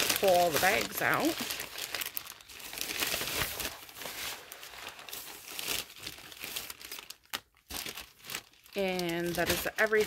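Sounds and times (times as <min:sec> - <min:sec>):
packaging bags crinkling: 0:00.0 - 0:10.0.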